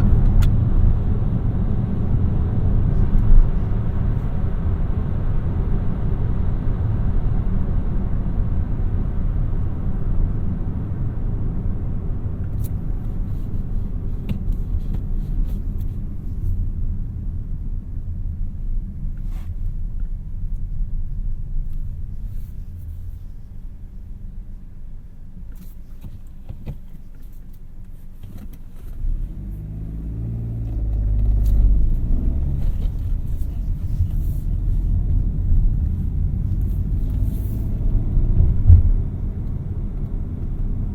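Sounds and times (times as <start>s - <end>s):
car engine rumble: 0.0s - 40.9s.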